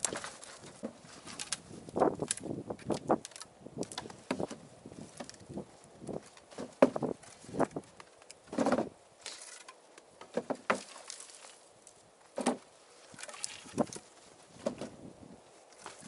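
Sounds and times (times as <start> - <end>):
wood branches clattering: 0.0 - 15.0, 15.6 - 16.0.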